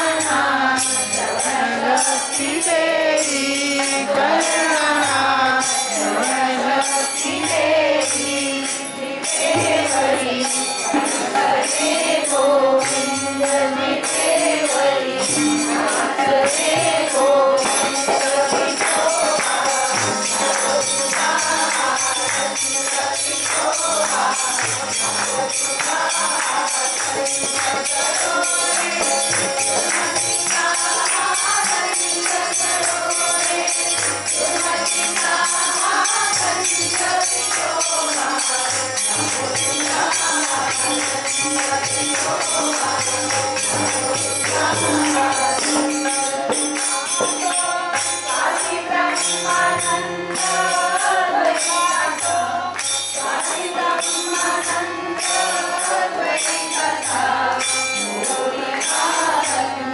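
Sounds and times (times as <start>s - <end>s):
group singing devotional song: 0.0s - 59.9s
harmonium: 0.0s - 59.9s
jingling hand cymbals: 0.0s - 59.9s.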